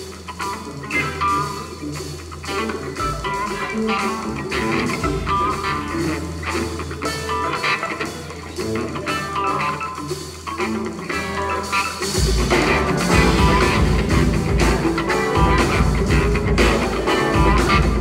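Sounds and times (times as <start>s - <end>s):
big band playing funk: 0.0s - 18.0s
drum kit: 0.0s - 18.0s
electric bass: 0.0s - 18.0s
electric guitar: 0.0s - 18.0s.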